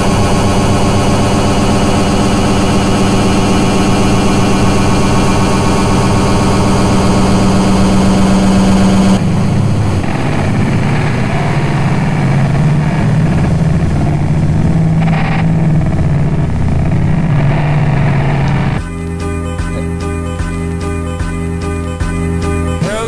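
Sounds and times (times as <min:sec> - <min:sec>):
steady low hum: 0:00.0 - 0:18.8
dense droning noise: 0:00.0 - 0:18.9
wavering drone: 0:00.0 - 0:20.3.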